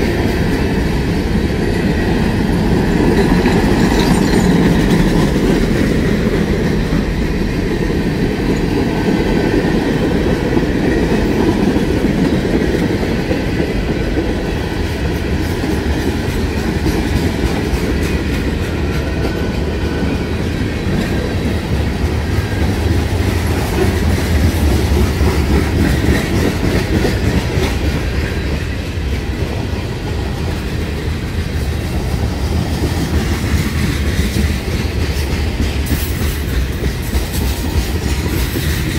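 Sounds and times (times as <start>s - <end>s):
freight train rumbling: 0.0s - 38.9s
steel wheels clattering on rails: 4.9s - 38.9s.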